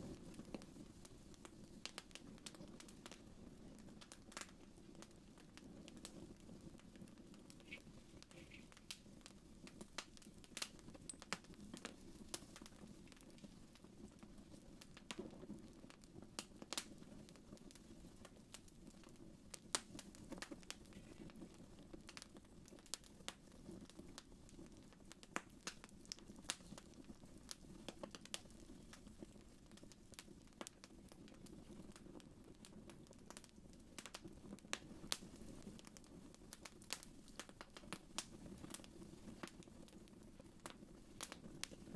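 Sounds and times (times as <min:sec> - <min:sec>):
low rumble of flames: 0:00.0 - 0:41.9
wood fire crackling: 0:00.0 - 0:41.9.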